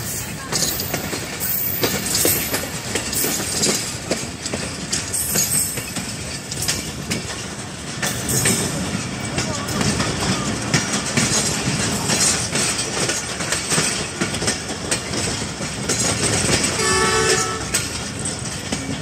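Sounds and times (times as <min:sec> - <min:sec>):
train rumble and rattle: 0:00.0 - 0:19.0
wheels clacking over rail joints: 0:00.0 - 0:19.0.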